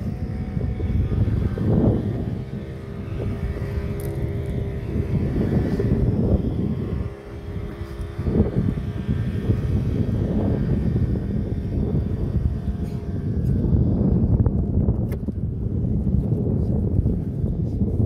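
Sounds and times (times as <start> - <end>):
boat motor humming: 0.0 - 18.0
wind buffeting microphone: 0.0 - 18.0.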